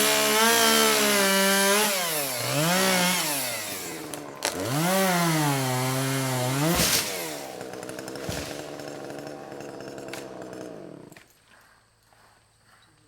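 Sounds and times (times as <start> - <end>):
chainsaw running: 0.0 - 11.3.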